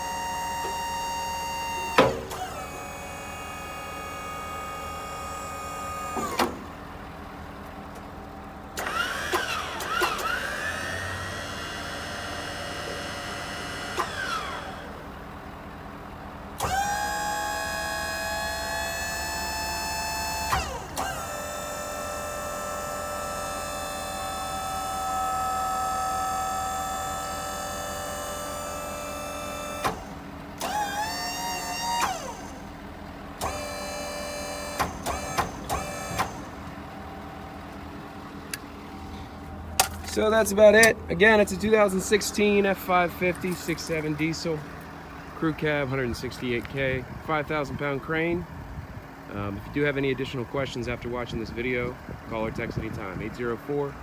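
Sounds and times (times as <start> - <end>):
hydraulic pump motor whining: 0.0 - 7.0, 7.6 - 15.3, 16.5 - 45.4.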